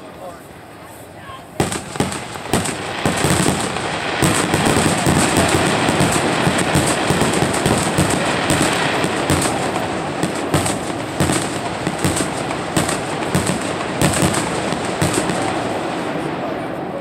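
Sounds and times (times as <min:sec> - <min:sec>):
firework rumble and crackle: 0:00.0 - 0:17.0
firework shells bursting: 0:01.6 - 0:16.2.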